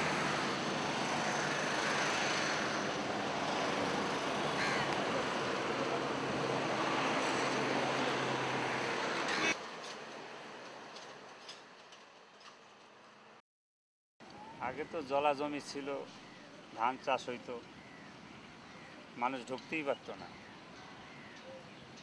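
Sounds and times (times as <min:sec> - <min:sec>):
road traffic noise: 0:00.0 - 0:13.4, 0:14.2 - 0:22.0.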